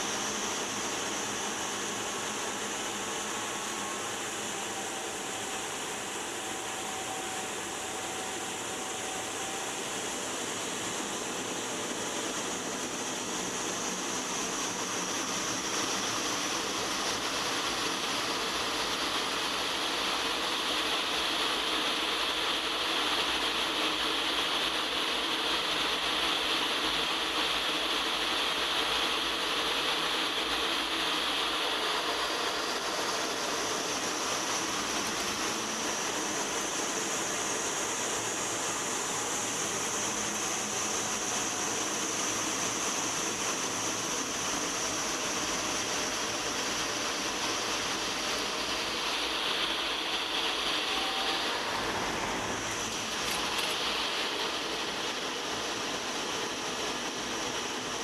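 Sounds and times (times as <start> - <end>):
airflow over canopy: 0.0 - 58.0
jet engine whine: 0.0 - 58.0.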